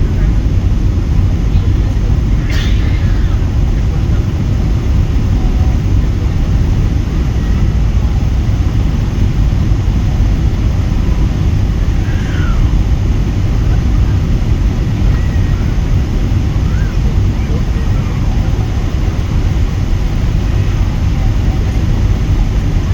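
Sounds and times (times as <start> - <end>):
airliner engines and airflow rumbling: 0.0 - 22.9.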